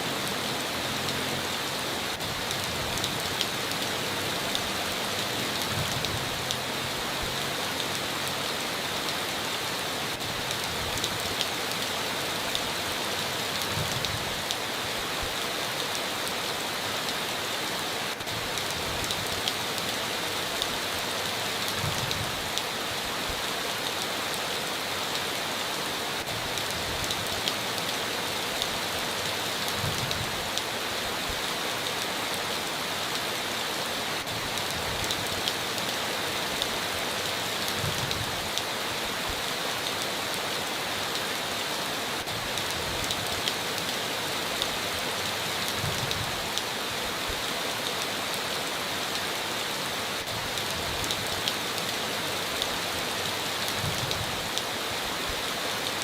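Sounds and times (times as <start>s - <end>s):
steady rain falling: 0.0s - 56.0s
raindrops ticking on a surface: 0.1s - 17.5s, 18.1s - 25.5s, 26.2s - 56.0s.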